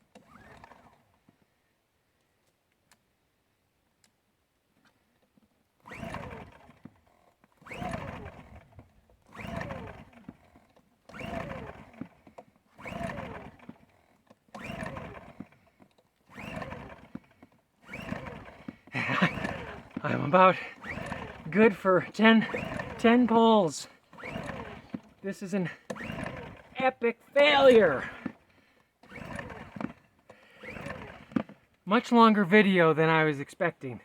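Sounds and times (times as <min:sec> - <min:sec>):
generator recoil starter pulls: 0:00.0 - 0:01.5, 0:04.8 - 0:33.0.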